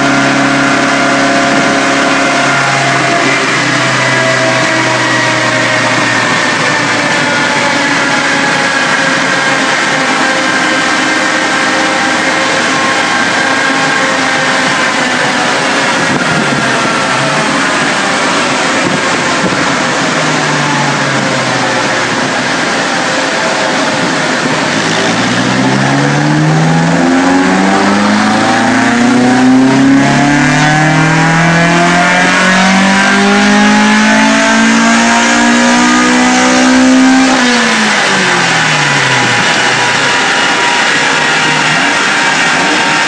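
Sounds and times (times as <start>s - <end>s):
car engine revving under load: 0.0s - 43.0s.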